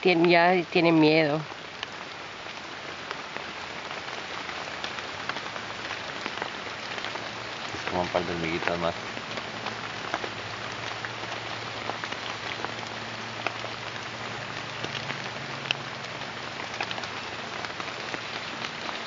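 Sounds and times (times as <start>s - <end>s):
rainforest background hiss: 0.0s - 19.0s
small ticks and patters: 0.0s - 19.0s.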